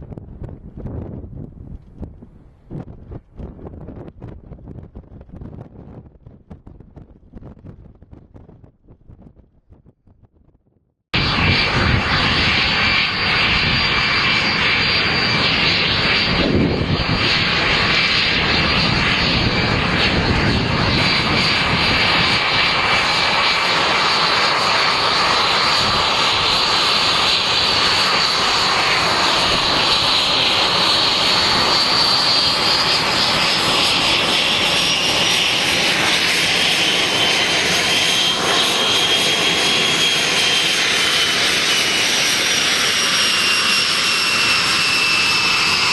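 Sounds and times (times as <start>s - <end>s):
jet engine roaring with whine: 0.0s - 9.8s, 11.2s - 45.9s.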